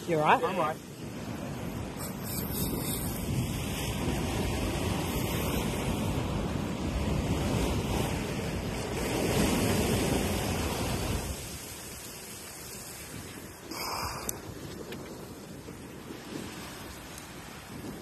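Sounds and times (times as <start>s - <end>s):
sea surf washing against rocks: 0.0s - 18.0s
wind buffeting microphone: 0.0s - 18.0s.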